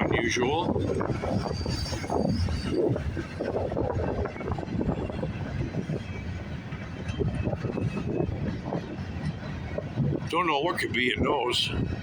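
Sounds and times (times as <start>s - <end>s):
wheels clattering on rails: 0.0s - 10.9s
freight train rumbling: 0.0s - 12.0s.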